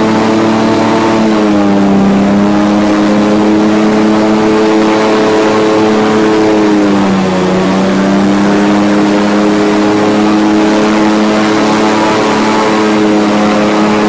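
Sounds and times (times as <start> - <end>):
airboat engine and propeller drone: 0.0 - 14.0.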